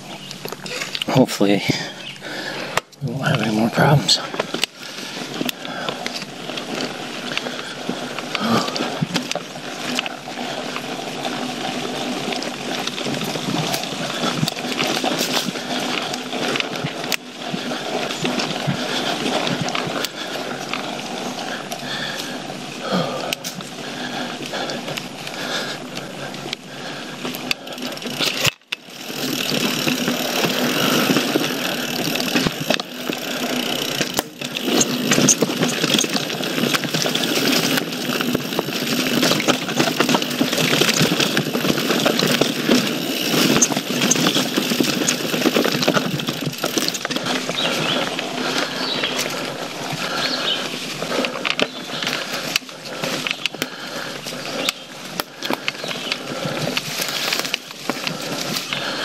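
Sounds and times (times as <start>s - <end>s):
tyres on dirt trail: 0.0s - 59.0s
bike clattering over bumps: 1.6s - 59.0s.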